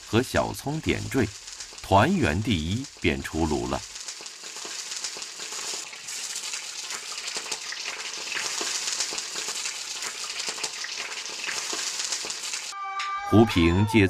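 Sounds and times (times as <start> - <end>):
food frying in hot oil: 0.0 - 12.8.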